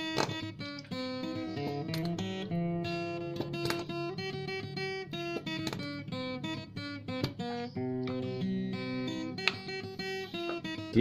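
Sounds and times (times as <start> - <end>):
acoustic guitar playing: 0.0 - 11.0.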